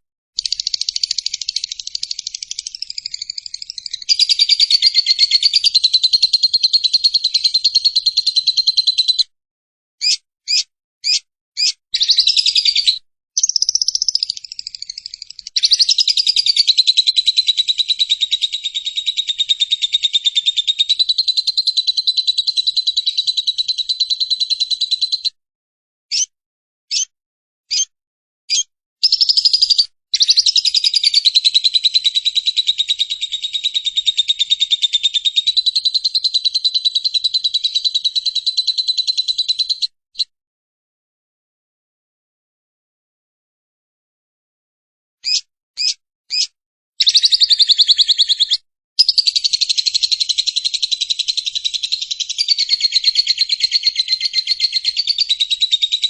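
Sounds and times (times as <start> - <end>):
lovebird chattering trill: 0.4 - 9.2, 10.0 - 25.3, 26.9 - 27.1, 28.5 - 39.9, 45.2 - 56.0
short bird chirps: 0.4 - 9.3, 10.0 - 25.4, 26.1 - 26.3, 26.9 - 27.1, 27.7 - 27.9, 28.5 - 40.3, 45.2 - 56.0.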